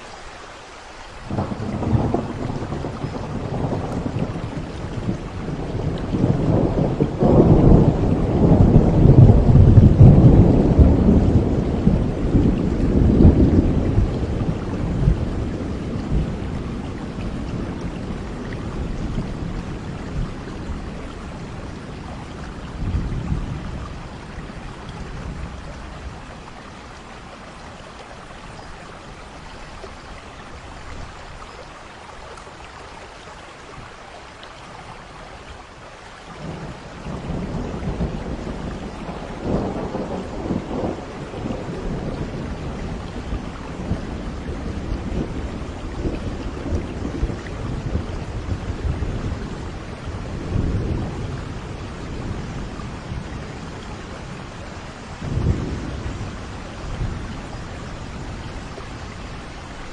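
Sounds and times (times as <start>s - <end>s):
steady rain: 0.0s - 59.9s
rolling thunder: 1.3s - 27.0s, 36.4s - 59.9s.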